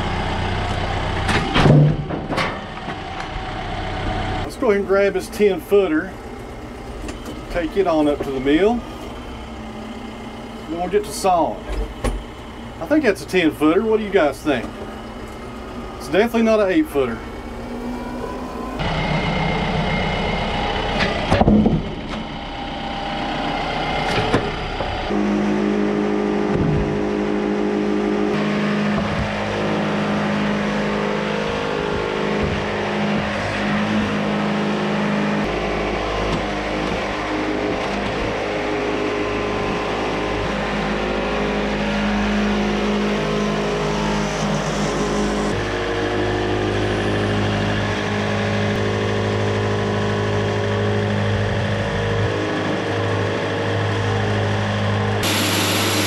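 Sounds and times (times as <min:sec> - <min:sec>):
sawmill engine running: 0:00.0 - 0:56.0
tractor engine: 0:00.0 - 0:56.0.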